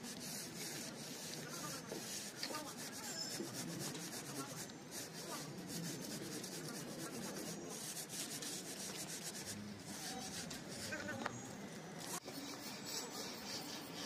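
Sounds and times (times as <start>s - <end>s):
wooden edge scraping wet mortar: 0.0s - 11.4s.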